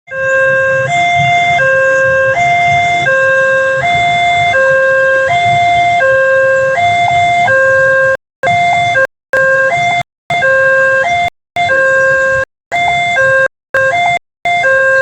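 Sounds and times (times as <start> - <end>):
level crossing two-tone alarm: 0.1 - 15.0.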